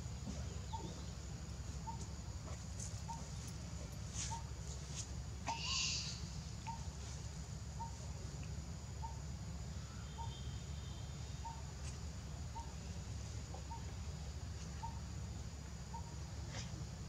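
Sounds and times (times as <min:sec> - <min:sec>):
low background rumble: 0:00.0 - 0:17.0
bird chirping: 0:00.2 - 0:08.3, 0:09.0 - 0:09.2, 0:09.8 - 0:15.1, 0:15.8 - 0:16.2.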